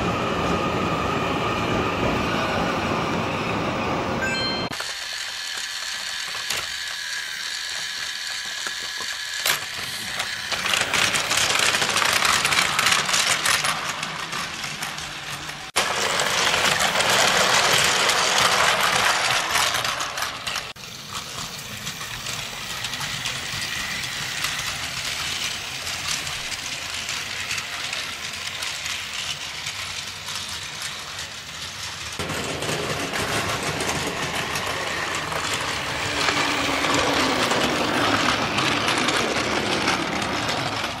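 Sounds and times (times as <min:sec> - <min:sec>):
toy train motor whirring: 0:04.7 - 0:41.0.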